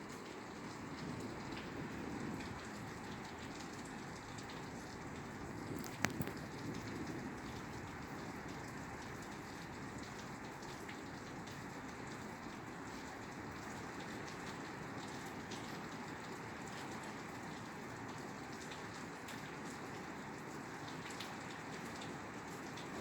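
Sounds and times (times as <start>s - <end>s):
rain falling on a roof: 0.0s - 23.0s.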